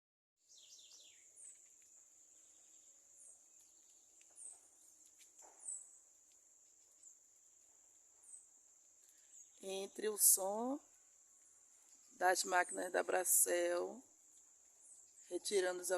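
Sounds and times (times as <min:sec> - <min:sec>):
small birds chirping: 0:00.4 - 0:15.9.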